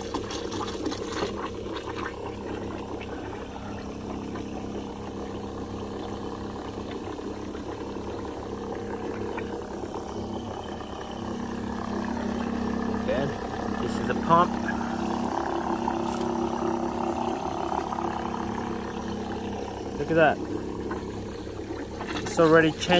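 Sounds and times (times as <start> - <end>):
electric sprayer pump running: 0.0 - 22.9.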